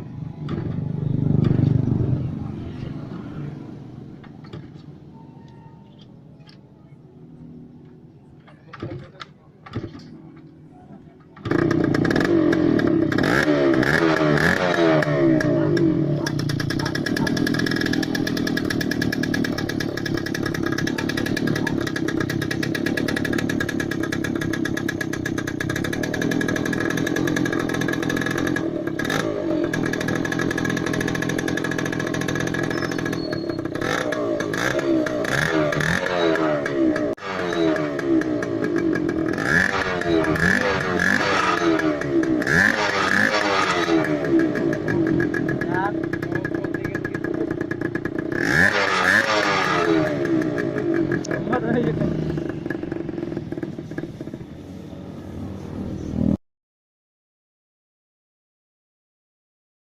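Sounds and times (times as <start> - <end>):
motorcycle engine revving: 0.0 - 5.0, 11.4 - 56.4.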